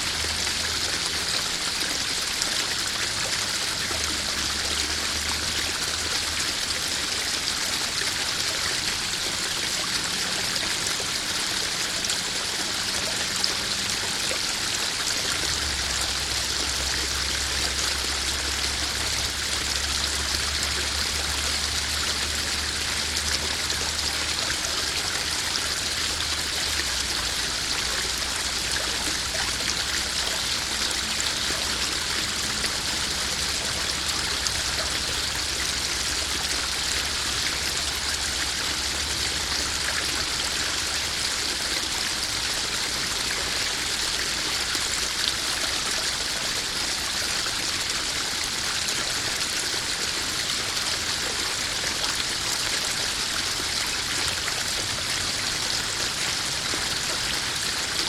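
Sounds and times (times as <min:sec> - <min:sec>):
waterfall splashing into pond: 0:00.0 - 0:58.0.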